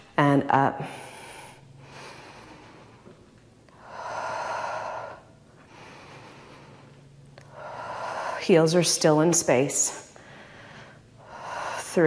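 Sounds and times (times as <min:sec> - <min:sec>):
woman breathing heavily: 0:00.8 - 0:12.0.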